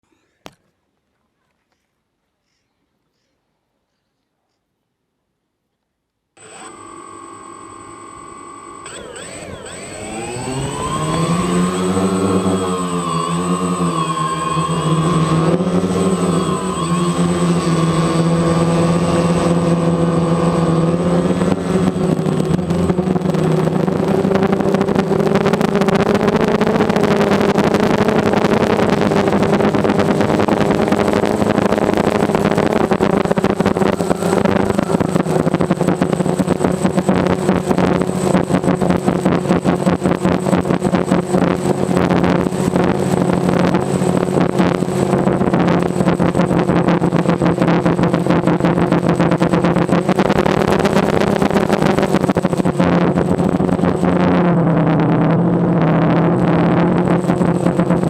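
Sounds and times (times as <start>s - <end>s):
drone propellers buzzing: 6.4s - 58.0s.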